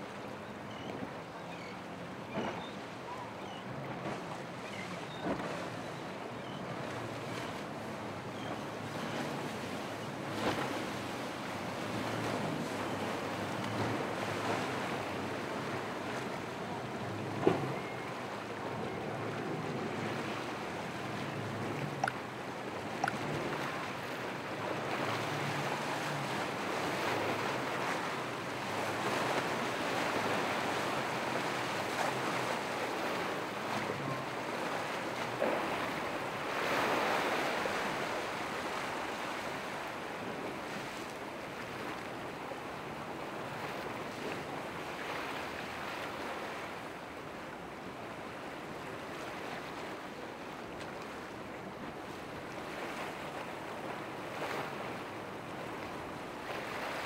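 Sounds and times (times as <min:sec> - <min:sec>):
low boat engine hum: 0:00.0 - 0:57.0
waves surging and breaking: 0:00.0 - 0:57.0.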